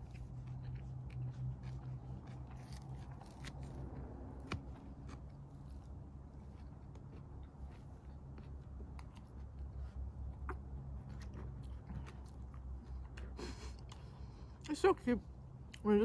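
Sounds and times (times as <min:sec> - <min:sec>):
chewing and biting chicken: 0:00.0 - 0:14.8
steady low hum: 0:00.0 - 0:16.0.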